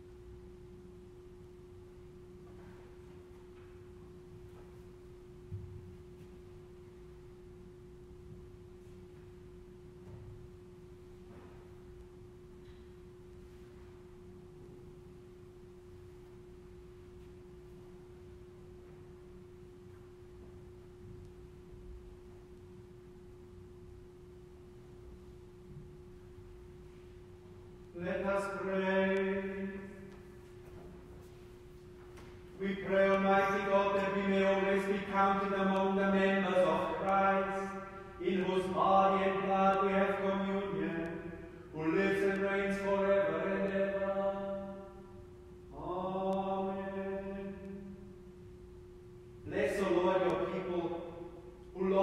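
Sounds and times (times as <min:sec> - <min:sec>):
steady single-pitch hum: 0:00.0 - 0:52.0.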